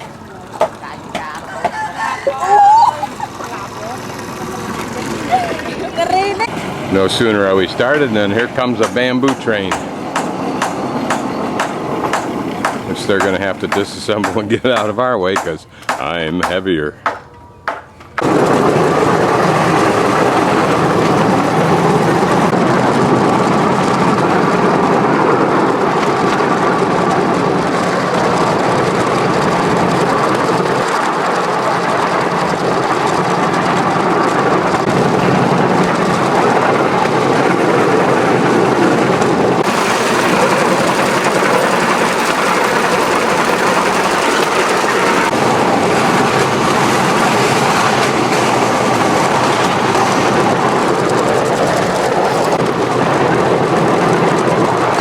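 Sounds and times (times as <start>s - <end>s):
engine hum: 0.0s - 55.0s
wheels rattling on rails: 0.0s - 55.0s.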